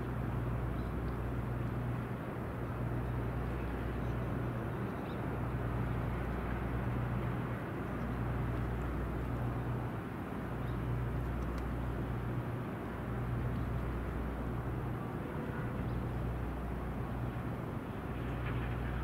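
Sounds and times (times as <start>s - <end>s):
boat engine drone: 0.0s - 19.0s
wind and water rushing: 0.0s - 19.0s.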